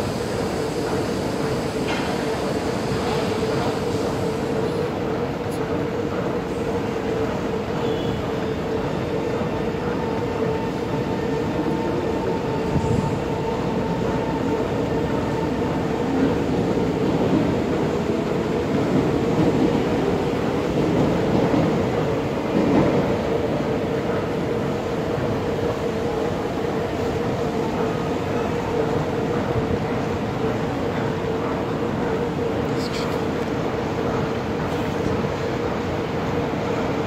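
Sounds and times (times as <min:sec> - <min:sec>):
train rail rumble: 0:00.0 - 0:37.0.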